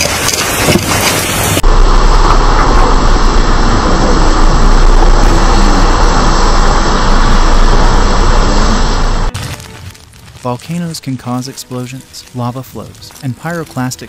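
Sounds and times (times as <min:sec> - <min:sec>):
volcano roaring: 0:00.0 - 0:12.1.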